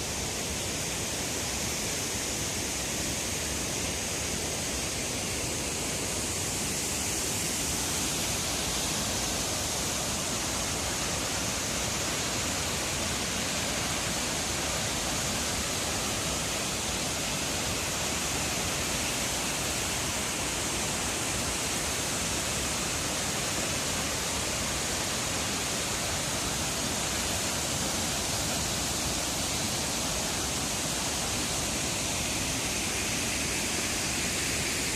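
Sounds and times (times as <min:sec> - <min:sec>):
waterfall rushing into pool: 0:00.0 - 0:34.9.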